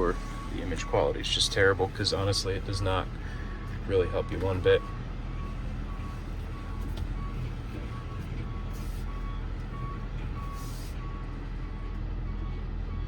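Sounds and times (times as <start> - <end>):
back-up alarm beeping: 0.0 - 13.0
diesel truck engine running: 0.0 - 13.0.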